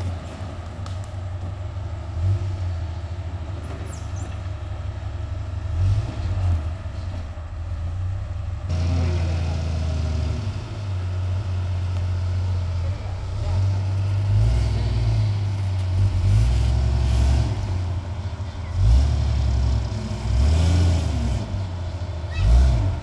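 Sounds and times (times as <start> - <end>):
vehicle engine at low revs: 0.0 - 23.0.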